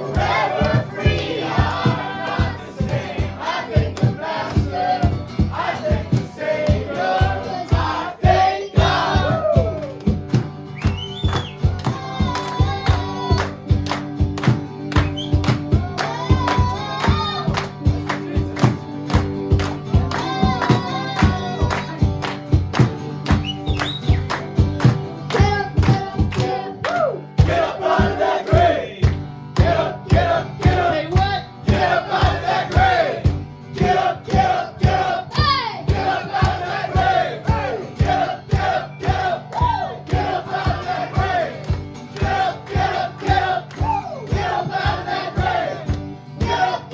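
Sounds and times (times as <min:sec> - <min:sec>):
people singing: 0:00.0 - 0:10.4, 0:11.3 - 0:13.8, 0:15.1 - 0:22.1, 0:25.3 - 0:46.9.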